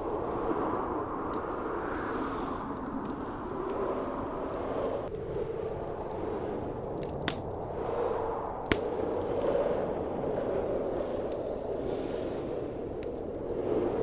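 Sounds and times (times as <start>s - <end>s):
blizzard wind roaring: 0.0s - 14.0s
fire popping: 0.0s - 14.0s
wood fire crackling: 0.0s - 14.0s.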